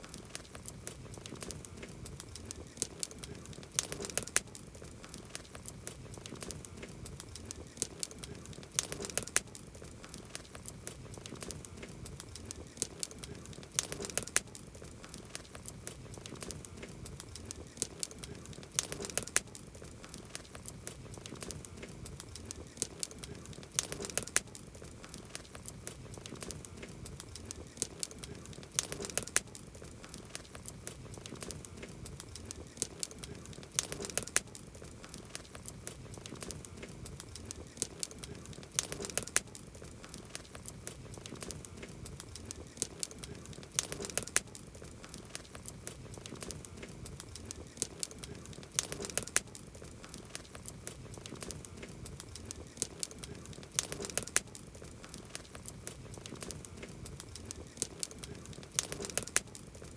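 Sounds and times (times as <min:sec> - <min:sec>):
campfire crackling: 0:00.0 - 0:59.9.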